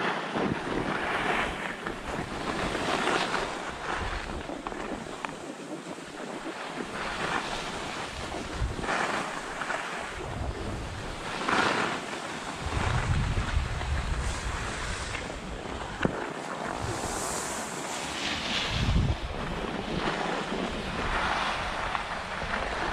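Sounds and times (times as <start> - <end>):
skis scraping over packed snow: 0.0 - 22.9
wind buffeting microphone: 0.0 - 22.9.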